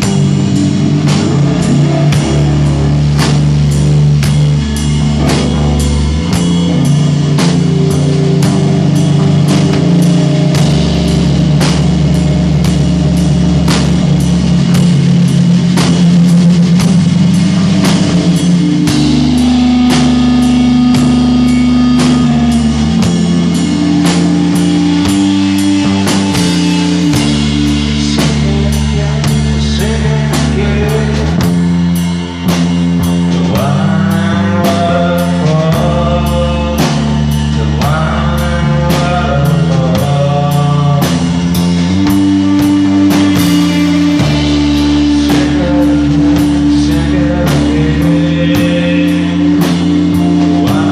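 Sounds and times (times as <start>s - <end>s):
wavering lead guitar melody: 0.0s - 38.2s, 40.3s - 50.9s
distorted guitar and bass chords: 0.0s - 50.9s
drums and cymbals: 0.0s - 50.9s.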